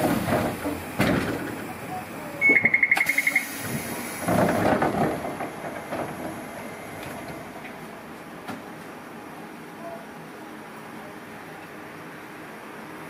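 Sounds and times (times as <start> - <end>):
tram running noise: 0.0 - 13.0.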